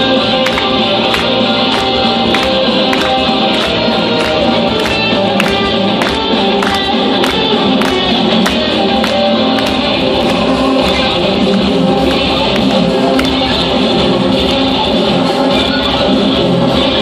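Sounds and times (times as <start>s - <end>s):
electric guitar lead: 0.0s - 17.0s
rock band playing: 0.0s - 17.0s.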